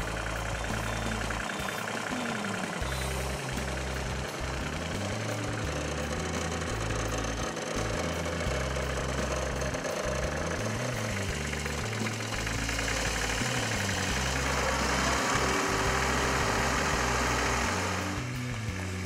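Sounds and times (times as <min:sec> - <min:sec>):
tractor diesel engine idling: 0:00.0 - 0:19.0.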